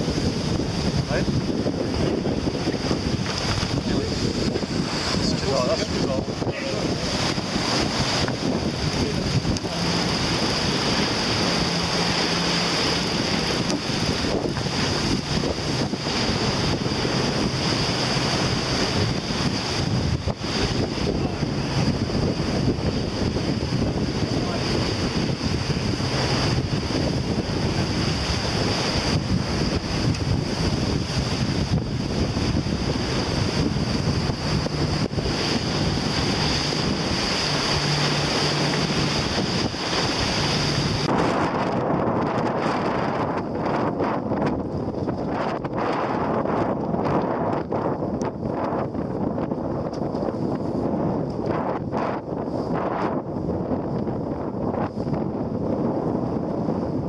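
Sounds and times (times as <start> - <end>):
breaking waves: 0.0 - 57.0
water rushing around hull: 0.0 - 57.0
wind buffeting microphone: 0.0 - 57.0.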